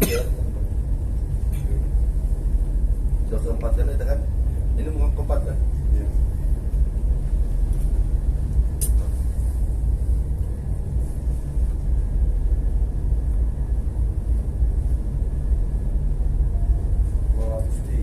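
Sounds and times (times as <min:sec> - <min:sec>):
low rumble aboard ship: 0:00.0 - 0:18.0.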